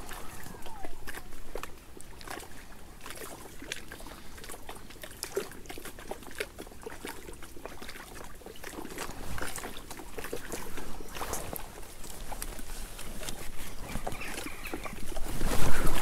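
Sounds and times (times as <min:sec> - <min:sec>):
water lapping at the bank: 0:00.0 - 0:16.0.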